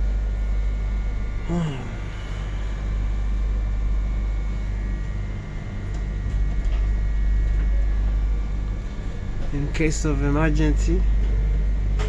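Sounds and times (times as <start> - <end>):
faint steady whining tones: 0.0 - 12.0
train running rumble: 1.3 - 12.0.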